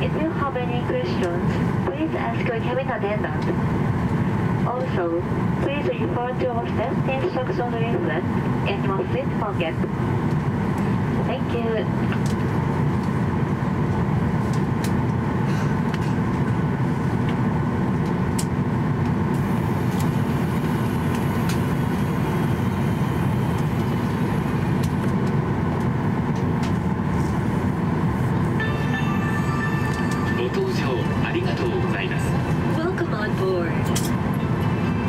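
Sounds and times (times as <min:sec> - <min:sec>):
low aircraft cabin drone: 0:00.0 - 0:35.0.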